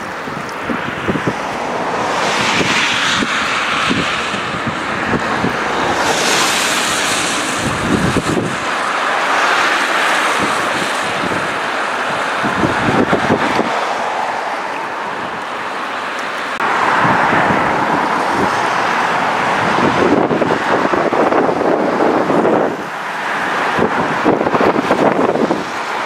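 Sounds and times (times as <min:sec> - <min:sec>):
floodwater rushing: 0:00.0 - 0:26.0
wind buffeting microphone: 0:00.0 - 0:26.0.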